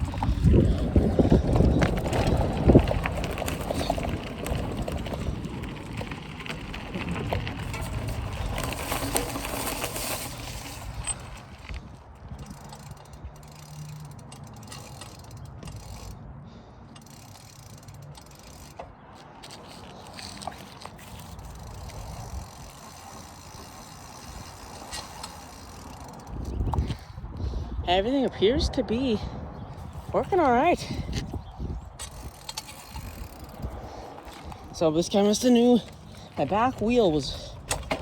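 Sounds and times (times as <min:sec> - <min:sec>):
wind rumble on microphone: 0:00.0 - 0:13.4, 0:21.0 - 0:38.0
bicycle chain rattling: 0:00.0 - 0:27.2, 0:30.3 - 0:38.0.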